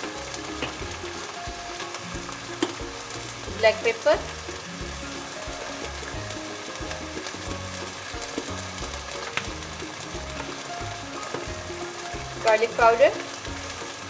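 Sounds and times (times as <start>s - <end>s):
chicken sizzling in oil: 0.0s - 14.0s
soft background music: 0.0s - 14.0s.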